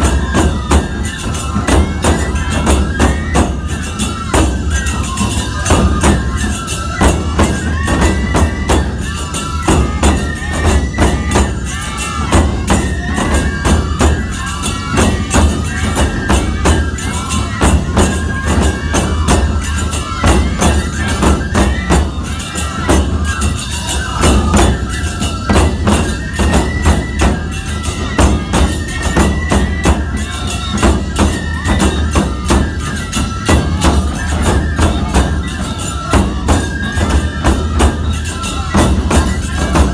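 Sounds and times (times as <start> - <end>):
bamboo flute melody: 0.0 - 39.9
hand cymbals clashing: 0.0 - 39.9
taiko drums beating: 0.0 - 39.9.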